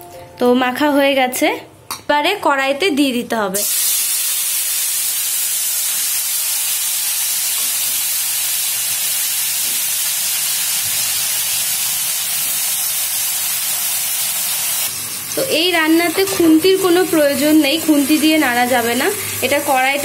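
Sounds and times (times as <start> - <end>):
food sizzling in hot oil: 3.6 - 20.0.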